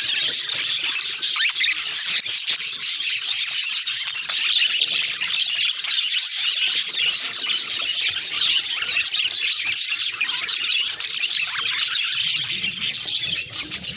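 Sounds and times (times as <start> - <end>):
budgerigars chattering and warbling: 0.0 - 13.9.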